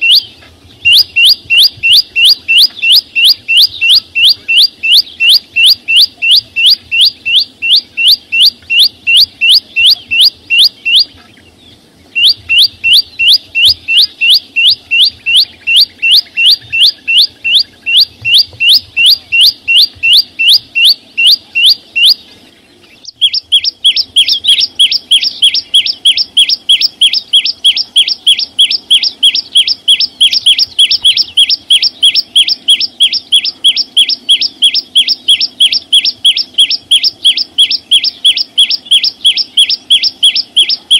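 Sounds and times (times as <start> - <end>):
songbird sharp downward chirps: 0.0 - 40.9.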